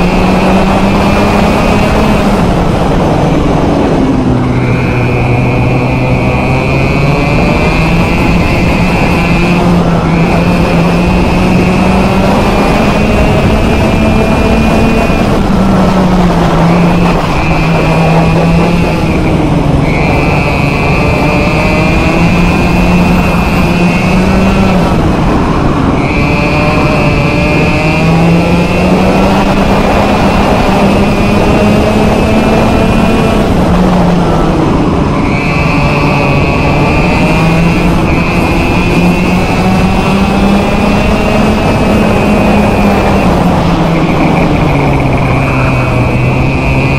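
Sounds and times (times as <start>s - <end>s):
kart engine revving: 0.0s - 46.9s.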